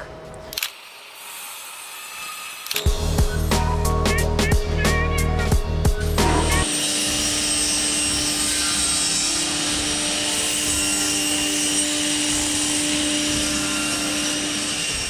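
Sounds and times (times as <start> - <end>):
woodworking machine humming: 0.0 - 15.0.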